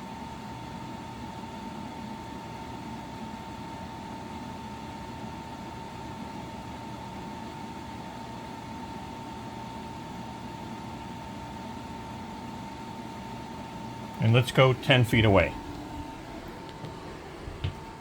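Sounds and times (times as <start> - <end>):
air conditioner fan running: 0.0 - 18.0.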